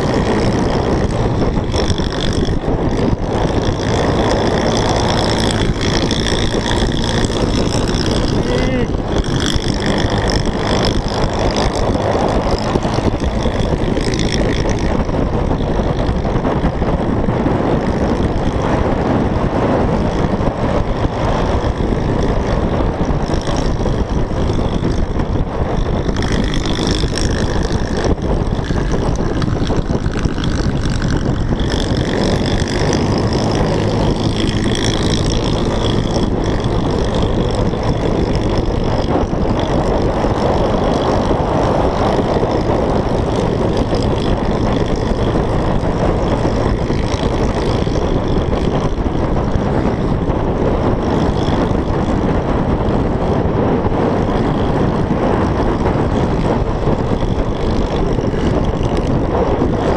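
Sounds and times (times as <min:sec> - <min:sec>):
scooter engine running: 0:00.0 - 0:59.9
wind buffeting microphone: 0:00.0 - 0:59.9.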